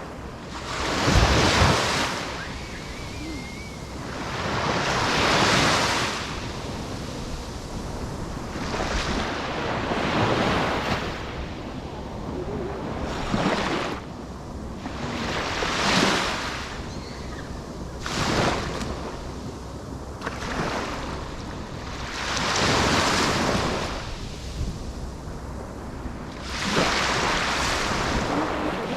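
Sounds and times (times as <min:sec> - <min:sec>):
ocean waves breaking: 0:00.0 - 0:28.9
wind buffeting microphone: 0:00.0 - 0:28.9.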